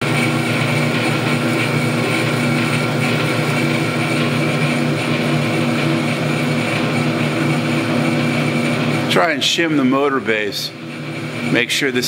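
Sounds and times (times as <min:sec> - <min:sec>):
bandsaw motor and belts humming: 0:00.0 - 0:12.0.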